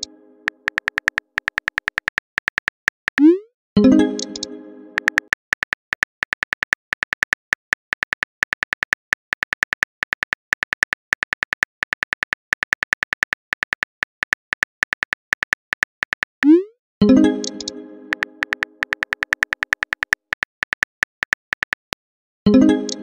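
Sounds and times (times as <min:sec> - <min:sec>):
keyboard tap clicks: 0:00.0 - 0:03.3, 0:04.2 - 0:16.4, 0:17.4 - 0:22.0.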